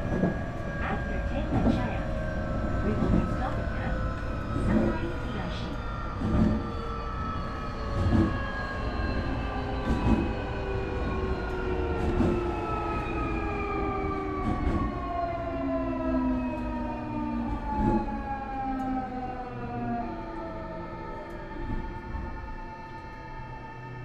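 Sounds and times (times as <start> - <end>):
train running rumble: 0.0 - 23.4.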